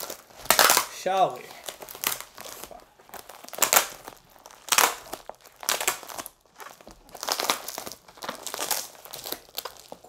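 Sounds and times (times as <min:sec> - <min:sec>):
plastic mailer bag crinkling: 0:00.0 - 0:10.0.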